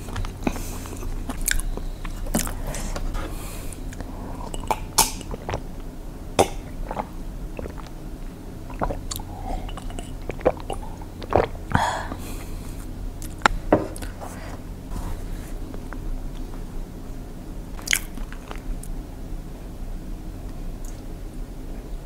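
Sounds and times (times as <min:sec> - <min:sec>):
person chewing food: 0:00.0 - 0:16.6, 0:17.8 - 0:19.0.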